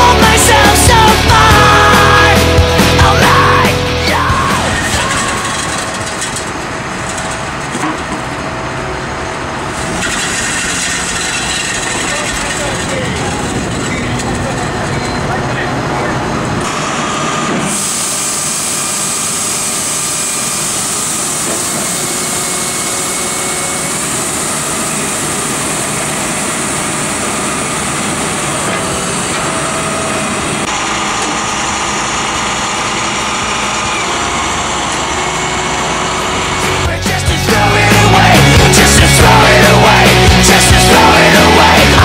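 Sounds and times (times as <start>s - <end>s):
tow truck hissy mechanical noise: 0.0s - 42.0s.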